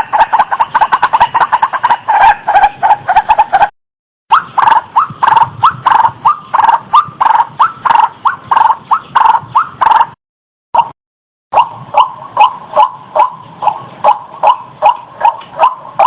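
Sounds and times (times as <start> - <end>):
waterhen calling harsh notes: 0.0 - 3.7, 4.3 - 10.2, 11.5 - 16.0.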